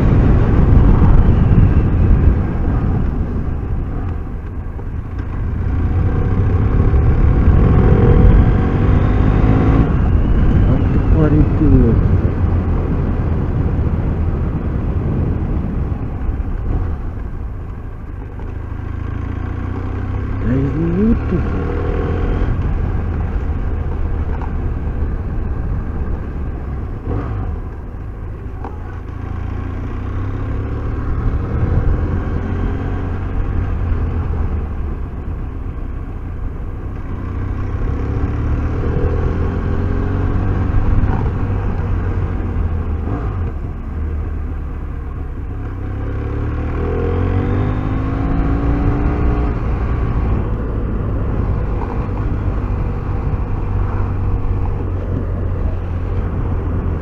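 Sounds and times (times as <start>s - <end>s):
motorcycle engine revving: 5.2s - 15.8s, 18.7s - 27.8s, 28.5s - 35.2s, 36.9s - 57.0s.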